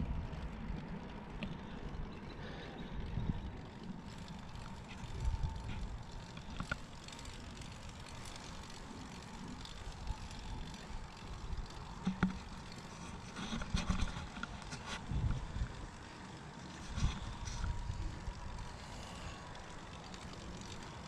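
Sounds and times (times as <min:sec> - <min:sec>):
bicycle tyre rumble on concrete: 0:00.0 - 0:21.0
bike clicks and rattles: 0:00.0 - 0:21.0.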